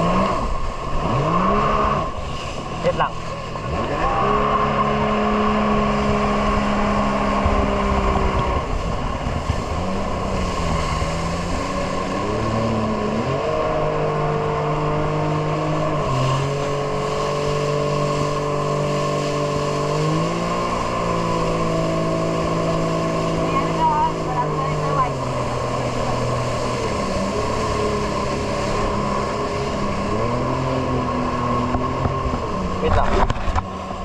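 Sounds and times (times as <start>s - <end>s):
jet ski engine running: 0.0s - 34.0s
rush of noise: 0.0s - 34.0s.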